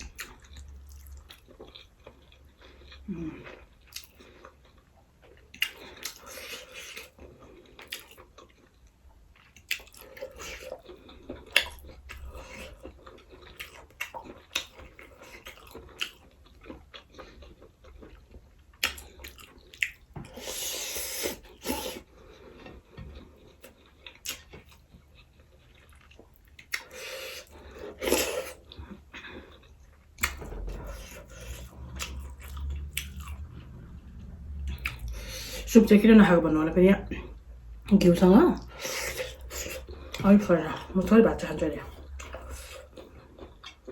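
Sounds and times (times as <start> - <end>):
person chewing food: 0.0 - 35.7, 38.6 - 40.9, 41.8 - 43.9.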